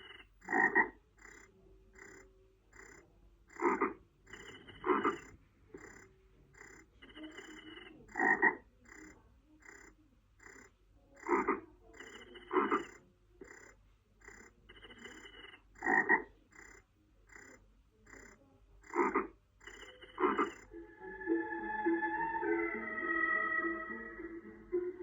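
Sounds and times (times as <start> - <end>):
frogs croaking: 0.0 - 25.0.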